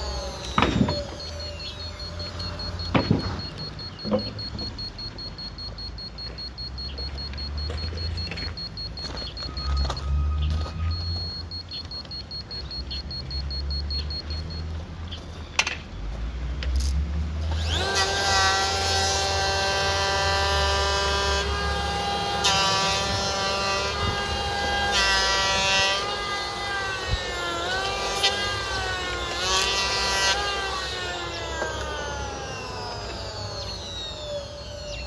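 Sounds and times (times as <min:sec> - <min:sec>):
power tool motor whining: 0:00.0 - 0:14.7, 0:16.8 - 0:35.0.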